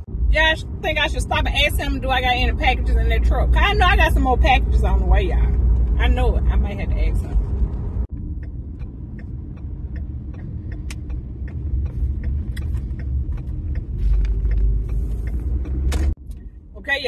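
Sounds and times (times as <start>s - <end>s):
car road noise rumble: 0.0s - 17.0s.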